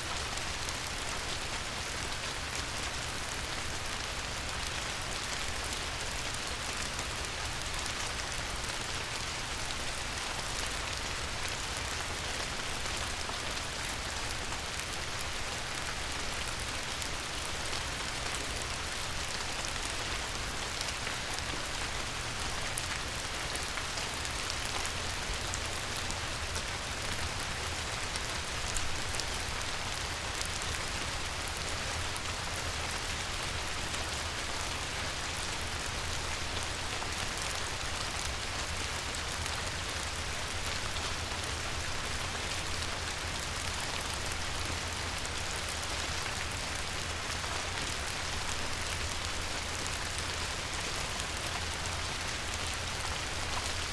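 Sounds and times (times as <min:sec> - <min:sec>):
light rain on a river: 0:00.0 - 0:53.9.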